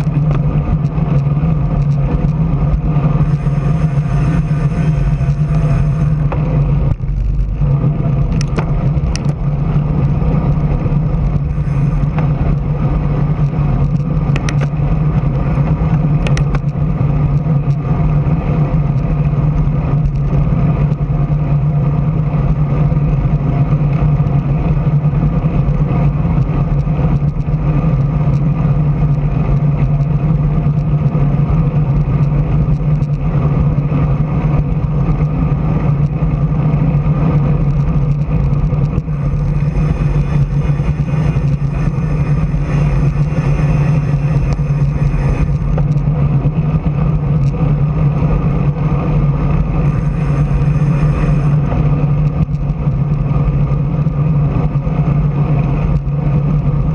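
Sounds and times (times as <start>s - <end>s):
constant low hum: 0.0s - 56.9s
wind and road noise: 0.0s - 56.9s.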